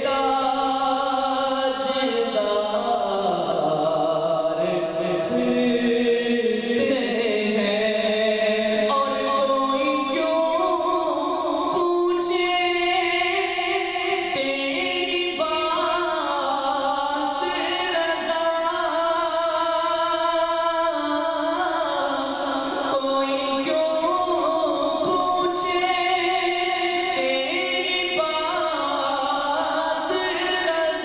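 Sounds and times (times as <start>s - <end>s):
man singing into microphone: 0.0s - 31.0s.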